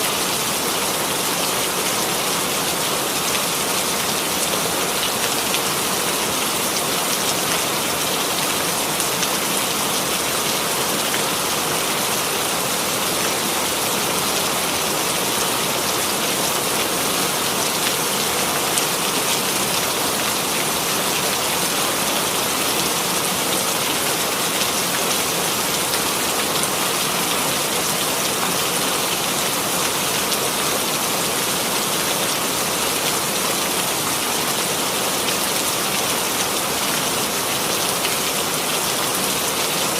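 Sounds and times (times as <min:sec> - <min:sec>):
steady rain pattering: 0:00.1 - 0:39.9.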